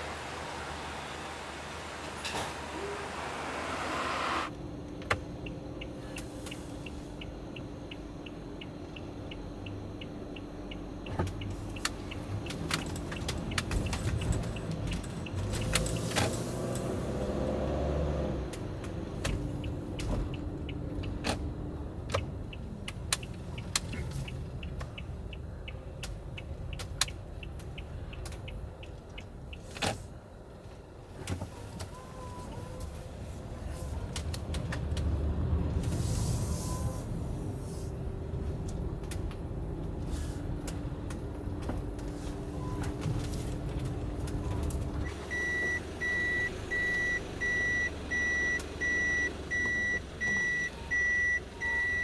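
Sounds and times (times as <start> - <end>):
van engine and road rumble: 0.0 - 52.0
turn signal ticking: 4.5 - 17.6, 18.4 - 35.9, 37.0 - 52.0.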